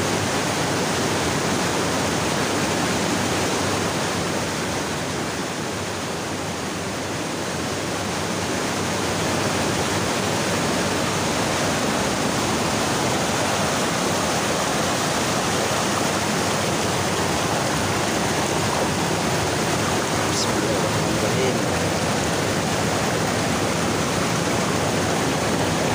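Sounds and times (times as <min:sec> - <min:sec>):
stream rushing over rocks: 0:00.0 - 0:25.9.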